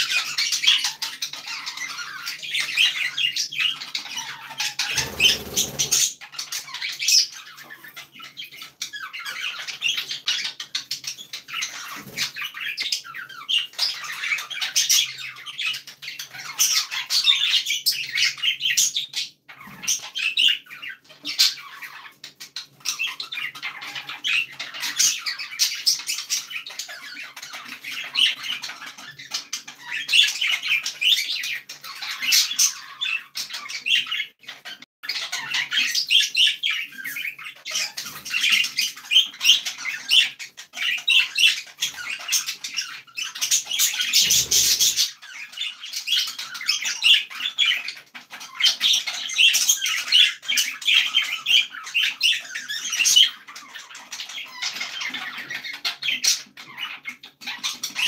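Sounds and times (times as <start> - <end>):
budgerigars chattering and warbling: 0.0 - 58.0.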